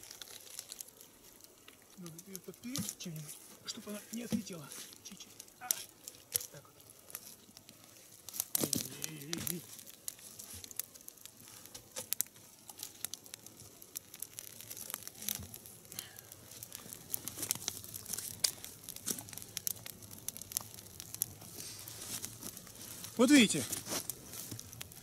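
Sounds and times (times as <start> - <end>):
log fire crackling and popping: 0.0 - 25.0.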